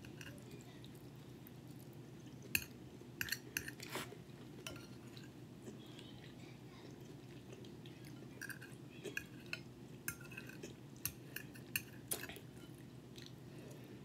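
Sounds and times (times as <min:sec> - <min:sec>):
chewing food: 0:00.0 - 0:13.8.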